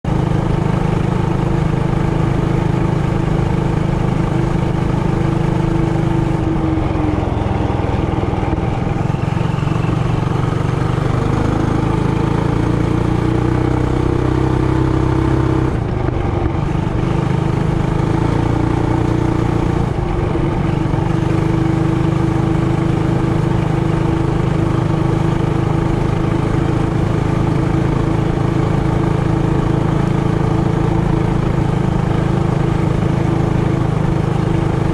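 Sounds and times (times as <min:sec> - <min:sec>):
minibike engine running: 0:00.1 - 0:34.9.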